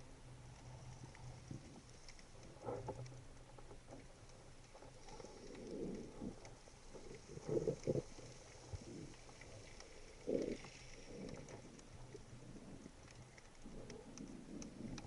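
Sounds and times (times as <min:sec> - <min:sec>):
low underwater hum: 0:00.0 - 0:15.0
muffled swishes of water: 0:00.0 - 0:15.0
small crackling clicks: 0:00.1 - 0:15.0.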